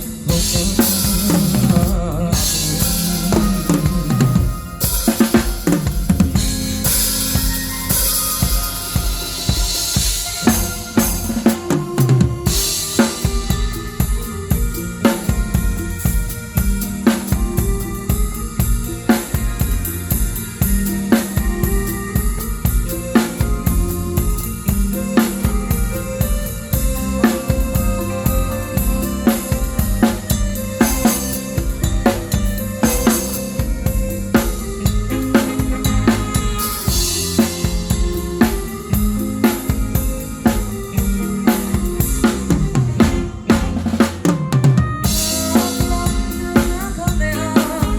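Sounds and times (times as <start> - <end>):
drum kit beat: 0.0 - 47.9
live band playing: 0.0 - 47.9.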